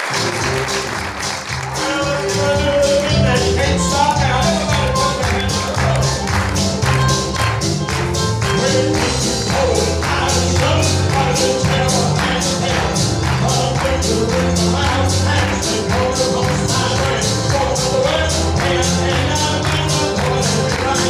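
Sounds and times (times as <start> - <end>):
gospel music with steady beat: 0.0 - 21.0.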